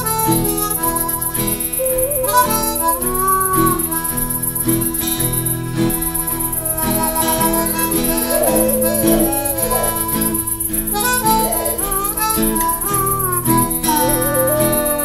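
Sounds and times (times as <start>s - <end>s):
harmonica playing blues lead: 0.0s - 15.0s
rhythmic chordal accompaniment: 0.0s - 15.0s.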